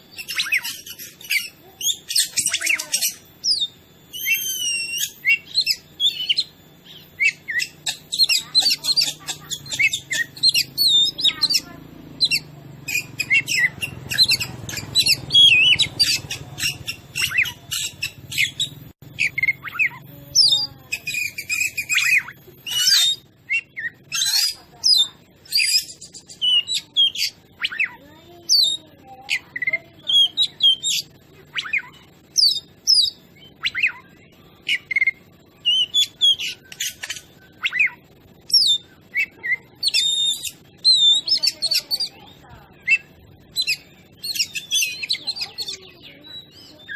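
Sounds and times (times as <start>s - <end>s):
bird singing loudly: 0.0s - 46.9s.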